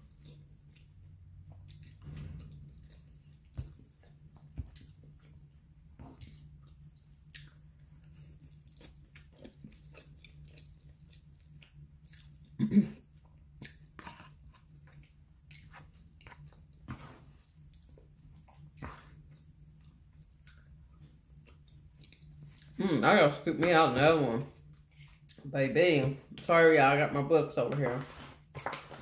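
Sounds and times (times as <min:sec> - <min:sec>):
person chewing with wet smacks: 0:00.0 - 0:22.8, 0:24.6 - 0:25.5
faint low hum: 0:00.0 - 0:29.0.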